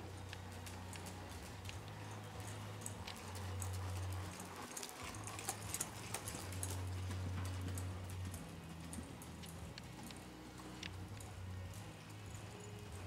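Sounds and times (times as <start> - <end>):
horse hoofbeats on soft sand: 0.0 - 13.0.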